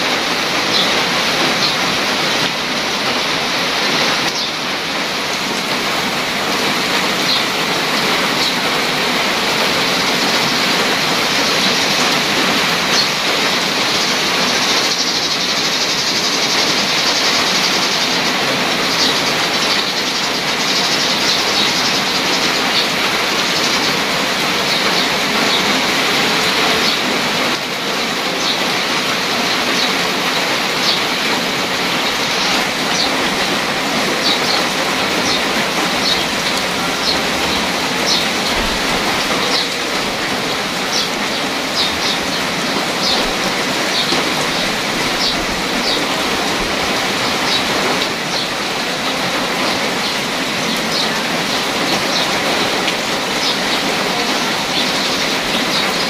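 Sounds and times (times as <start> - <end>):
rain on puddle and gravel: 0.0 - 56.0.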